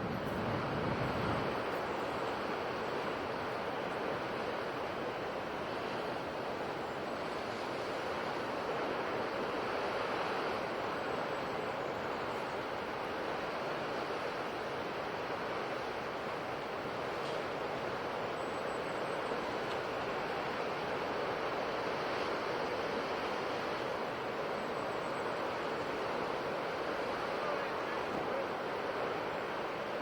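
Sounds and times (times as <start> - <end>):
ocean waves washing on shore: 0.0 - 30.0.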